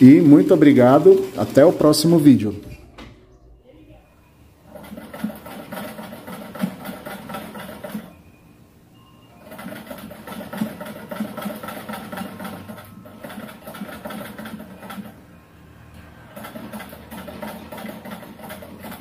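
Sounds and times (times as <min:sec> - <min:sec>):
sewing machine stitching: 0:00.0 - 0:03.0, 0:04.6 - 0:08.2, 0:09.4 - 0:15.2, 0:16.0 - 0:19.0.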